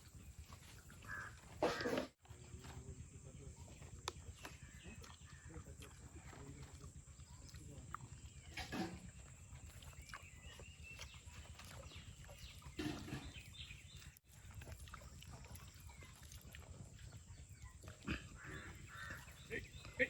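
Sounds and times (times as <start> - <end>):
animal calls: 0.0 - 2.2, 3.4 - 20.0.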